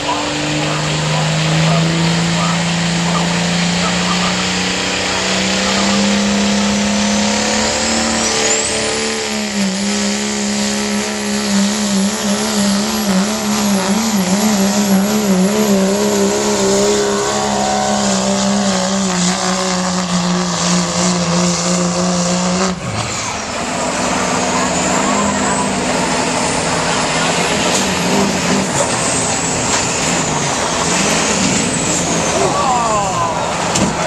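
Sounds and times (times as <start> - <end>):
pickup engine at full throttle: 0.0 - 34.0.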